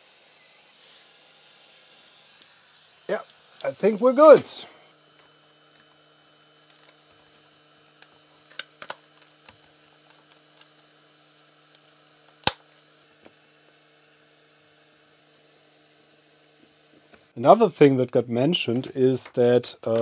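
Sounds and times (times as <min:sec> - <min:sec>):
faint mains hum: 0:00.0 - 0:20.0.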